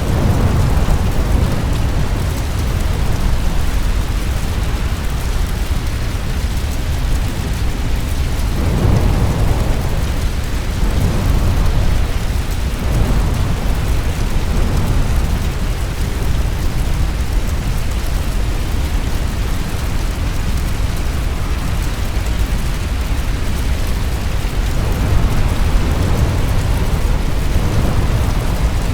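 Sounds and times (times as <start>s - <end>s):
deep rumbling fire storm: 0.0s - 28.9s.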